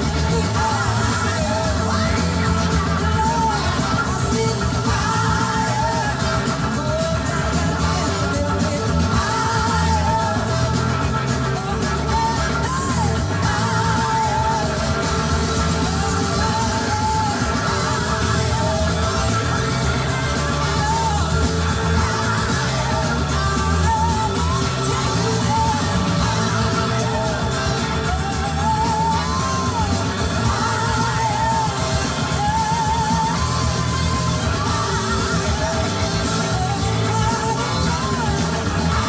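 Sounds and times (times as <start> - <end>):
electric guitar: 0.0 - 39.0
live rock band playing: 0.0 - 39.0
person singing: 0.0 - 39.0.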